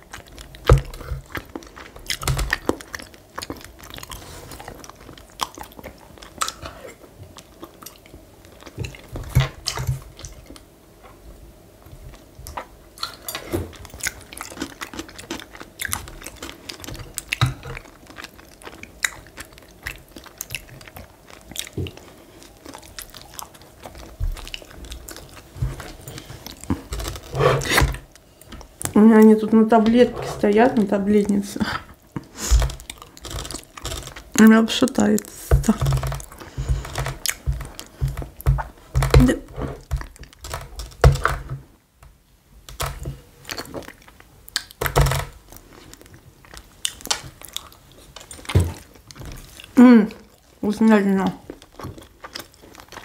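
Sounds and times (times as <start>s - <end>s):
chewing and biting food: 0.0s - 10.7s, 12.0s - 29.3s, 31.3s - 41.2s, 43.4s - 50.6s, 51.4s - 53.0s.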